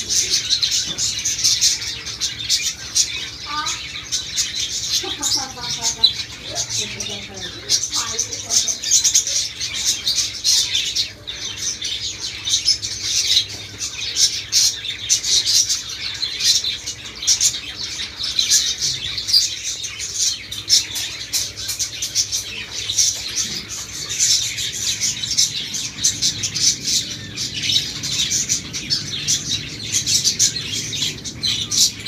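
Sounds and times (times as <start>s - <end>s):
budgerigars chirping and warbling: 0.0s - 32.0s.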